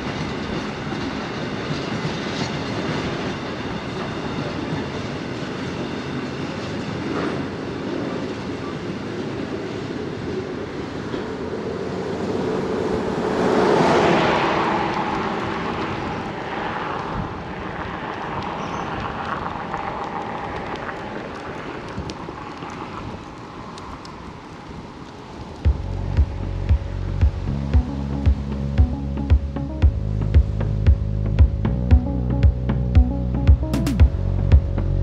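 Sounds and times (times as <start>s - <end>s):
freight train rolling past: 0.0s - 35.0s.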